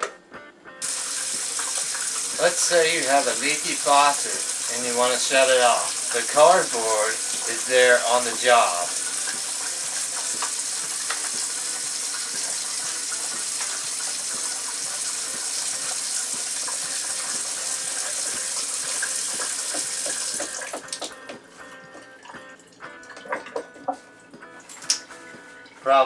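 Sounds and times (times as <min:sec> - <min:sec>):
water running from a faucet: 0:00.8 - 0:23.8, 0:24.6 - 0:25.1.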